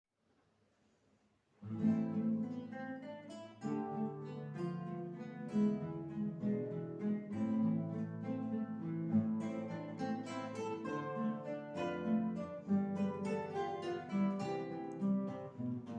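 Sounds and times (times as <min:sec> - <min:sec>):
acoustic guitars playing: 0:01.6 - 0:15.9.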